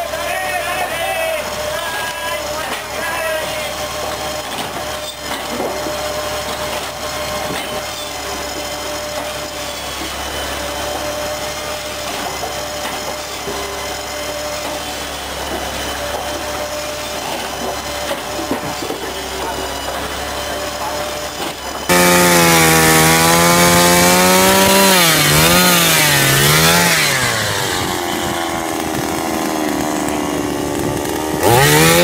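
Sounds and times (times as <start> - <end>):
saw cutting through logs: 0.0 - 32.0
wood knocking on machine: 0.4 - 32.0.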